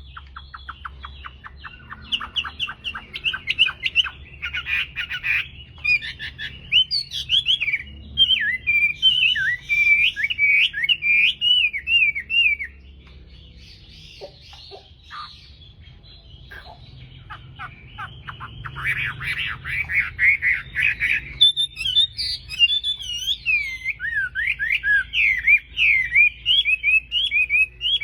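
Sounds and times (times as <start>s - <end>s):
bird singing whistled phrases: 0.0s - 12.8s, 16.4s - 28.0s.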